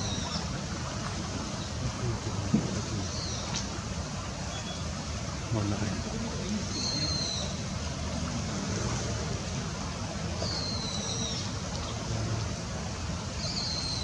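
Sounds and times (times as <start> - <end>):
distant traffic hum: 0.0 - 14.0
flowing river water: 0.0 - 14.0.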